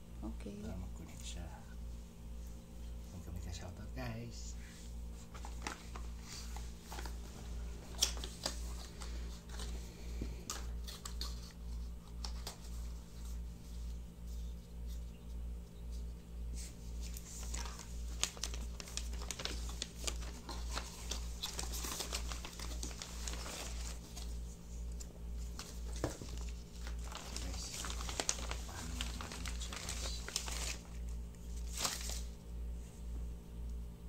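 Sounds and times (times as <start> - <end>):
plastic and cardboard crinkling: 5.1 - 32.4.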